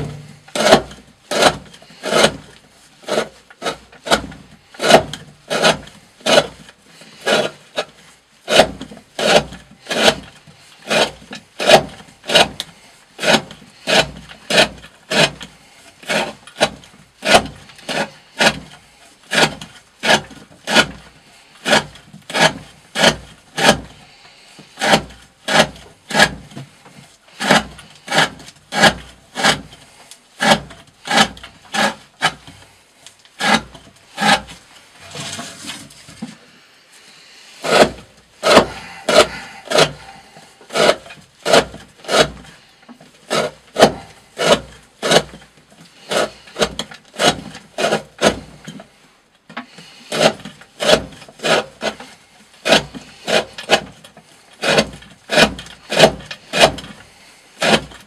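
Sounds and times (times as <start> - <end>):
knife slicing through rope: 0.0 - 24.0, 24.7 - 26.7, 27.3 - 32.7, 33.4 - 36.2, 37.6 - 42.7, 43.3 - 48.7, 50.0 - 54.0, 54.6 - 58.0.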